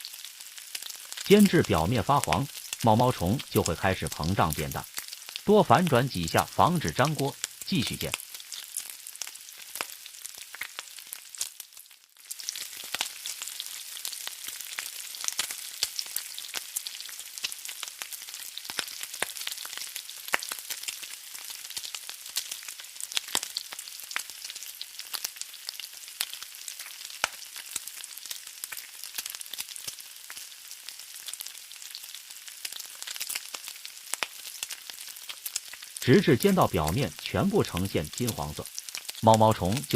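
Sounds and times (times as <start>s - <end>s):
hot oil sizzling: 0.0s - 39.9s.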